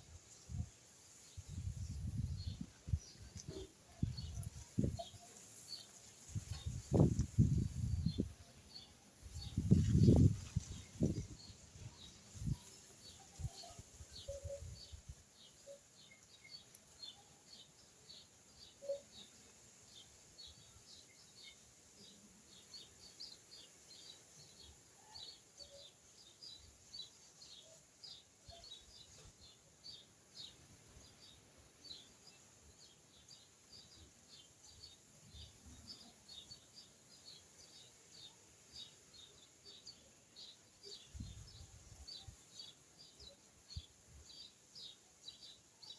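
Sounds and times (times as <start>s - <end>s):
faint bird chirping: 0.0s - 45.9s.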